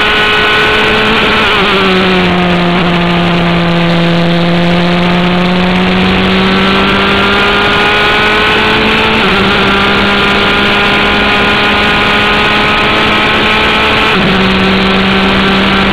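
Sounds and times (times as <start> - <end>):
race car engine accelerating: 0.0 - 15.9.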